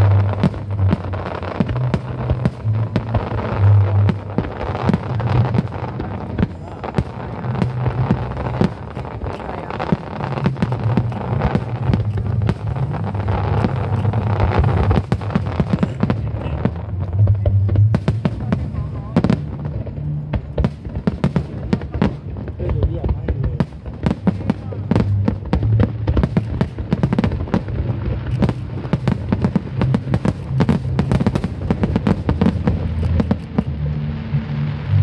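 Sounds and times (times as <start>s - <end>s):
fireworks bangs and crackles: 0.0s - 35.0s
music with low bass line: 0.0s - 35.0s.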